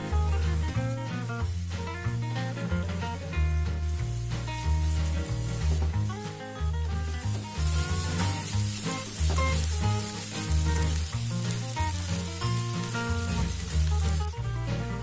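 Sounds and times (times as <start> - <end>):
background music with bass line: 0.0 - 15.0
vegetables sizzling in a wok: 0.0 - 15.0.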